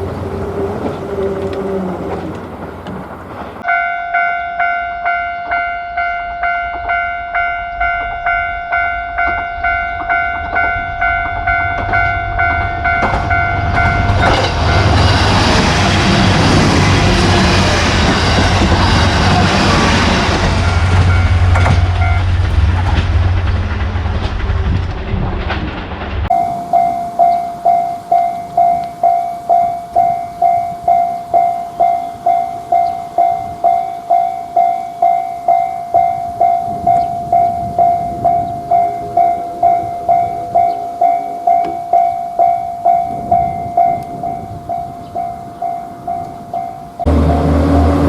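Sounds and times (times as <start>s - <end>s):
train rumbling past: 0.0s - 48.0s
railroad crossing bell ringing: 3.6s - 22.4s, 26.3s - 48.0s.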